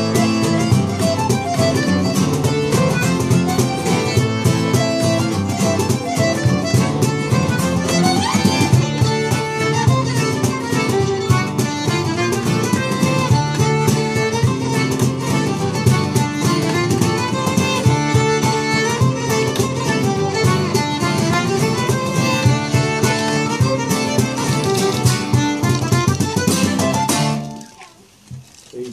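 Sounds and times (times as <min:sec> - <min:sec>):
button accordion: 0:00.0 - 0:27.4
fiddle: 0:00.0 - 0:28.1
strummed acoustic guitars: 0:00.0 - 0:28.3.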